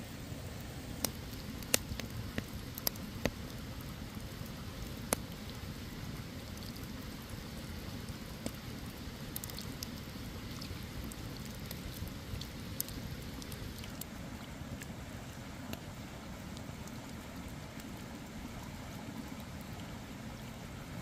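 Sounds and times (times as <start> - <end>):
campfire crackling: 0.2 - 21.0.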